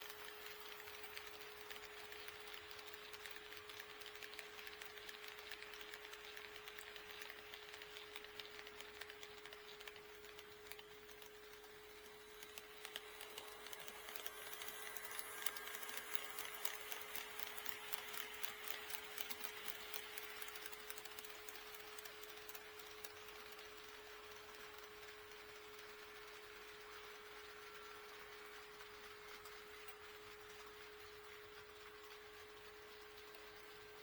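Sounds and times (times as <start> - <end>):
model train wheels clicking: 0.0 - 34.0.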